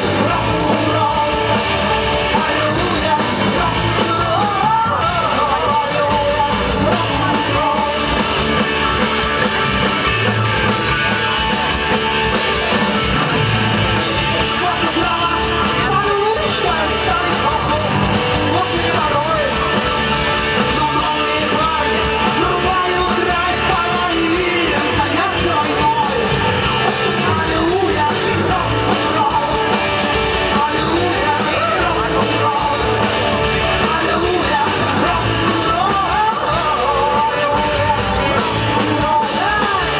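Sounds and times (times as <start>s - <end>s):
rock and roll band with singer: 0.0s - 39.9s.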